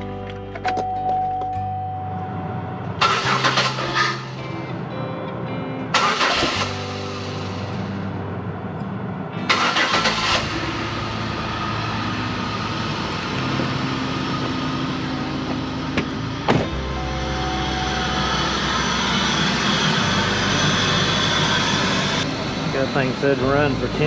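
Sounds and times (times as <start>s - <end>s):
car engine idling: 1.6s - 5.0s, 5.9s - 24.0s.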